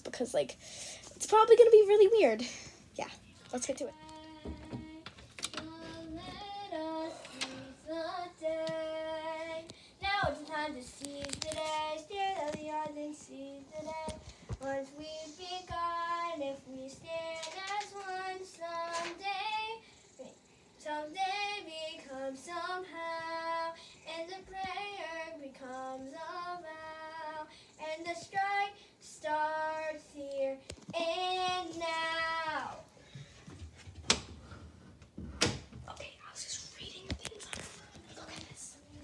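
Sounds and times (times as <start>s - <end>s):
girl singing unaccompanied: 3.2s - 33.0s, 36.0s - 39.0s.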